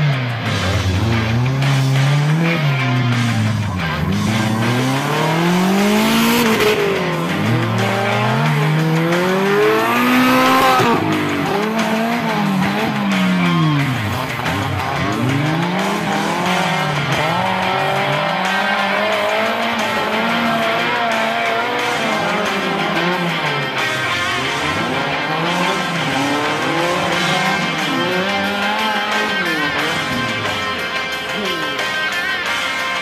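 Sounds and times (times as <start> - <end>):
buggy engine revving hard: 0.0 - 32.6.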